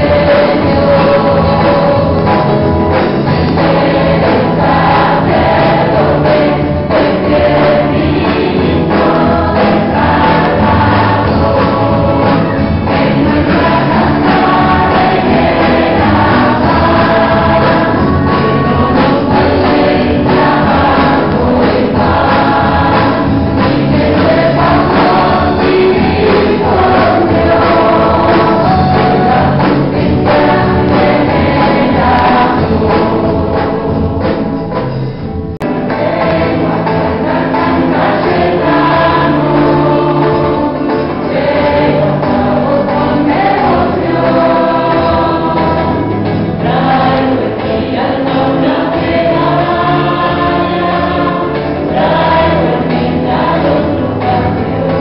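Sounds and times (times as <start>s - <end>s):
choir singing religious song: 0.0s - 35.0s, 35.6s - 55.0s
instrumental accompaniment: 0.0s - 55.0s.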